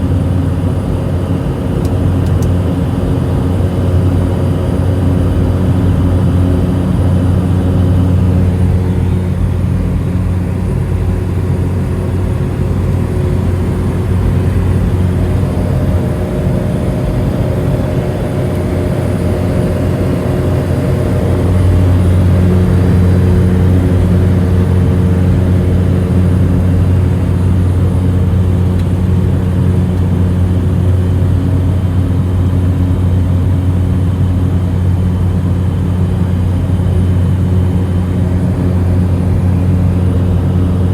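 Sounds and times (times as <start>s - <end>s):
turboprop engine droning: 0.0s - 40.9s.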